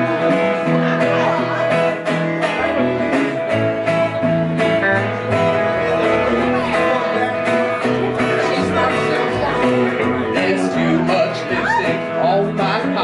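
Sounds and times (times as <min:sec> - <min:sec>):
acoustic guitar strumming: 0:00.0 - 0:13.0
double bass line: 0:00.0 - 0:13.0
electric guitar: 0:00.0 - 0:13.0.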